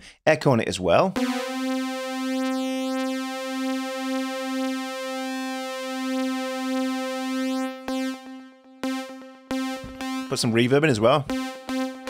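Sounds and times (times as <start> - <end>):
synthesizer held saw note wavering: 1.2 - 12.0.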